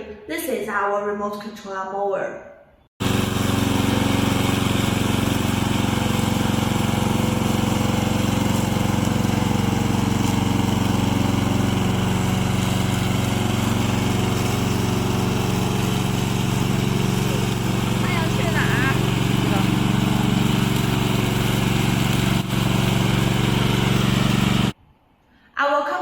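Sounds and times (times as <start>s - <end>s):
lawn mower engine running: 3.0s - 24.8s.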